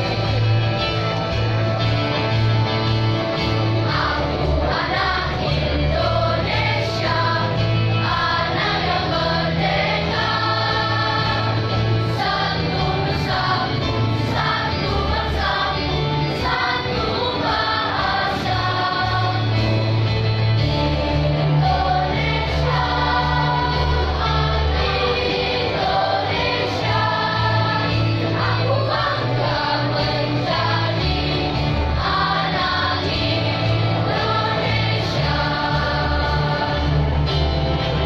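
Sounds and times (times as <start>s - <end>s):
children's choir singing: 0.0s - 38.0s
instrumental accompaniment with bass: 0.0s - 38.0s.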